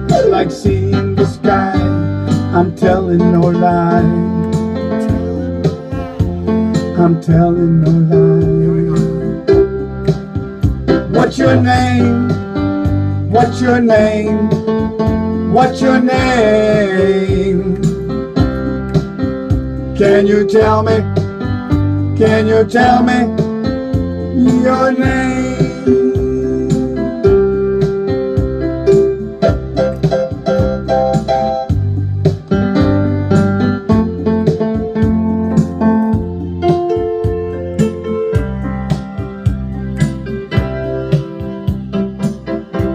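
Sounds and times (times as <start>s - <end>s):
electric piano chords: 0.0s - 42.9s
steady drum beat: 0.0s - 42.9s.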